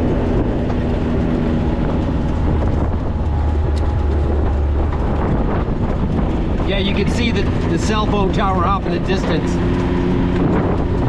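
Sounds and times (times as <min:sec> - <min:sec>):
tyres rumbling on dirt: 0:00.0 - 0:11.0
vehicle engine droning: 0:00.0 - 0:11.0.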